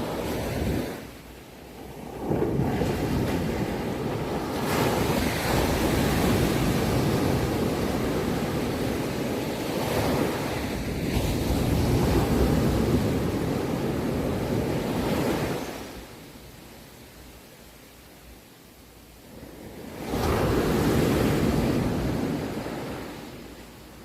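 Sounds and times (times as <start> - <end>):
waves washing onto shore: 0.0 - 24.0.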